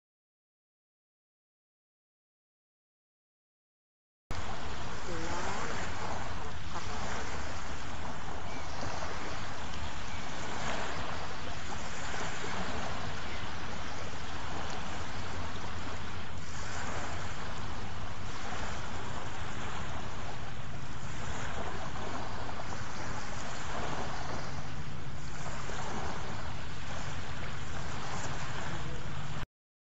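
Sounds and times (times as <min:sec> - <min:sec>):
sea waves washing in: 0:04.3 - 0:29.4.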